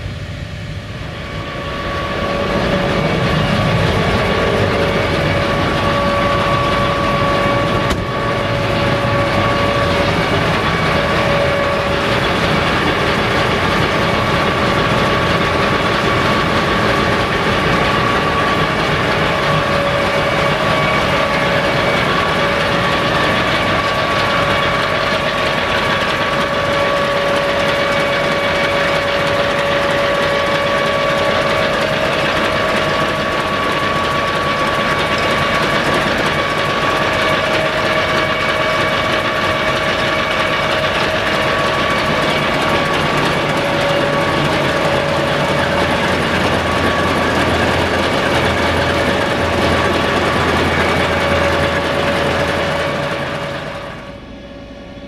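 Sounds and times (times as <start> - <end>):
diesel engine mechanical din: 0.0 - 54.3
steady engine whine: 0.0 - 55.0.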